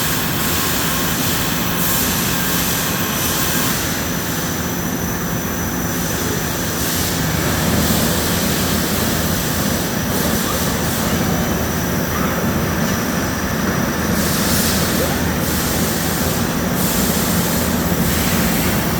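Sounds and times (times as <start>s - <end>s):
machine low hum: 0.0s - 18.9s
thin high machine whine: 0.0s - 18.9s.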